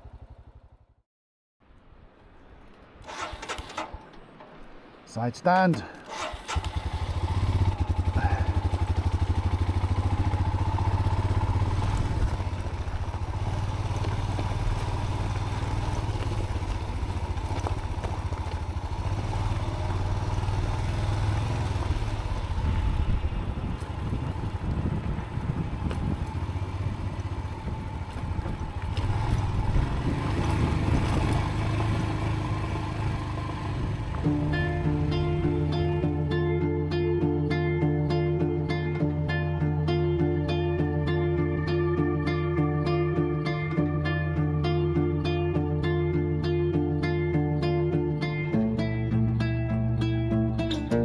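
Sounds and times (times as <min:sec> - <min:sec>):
motorcycle engine running: 0:00.0 - 0:01.0, 0:06.1 - 0:51.0.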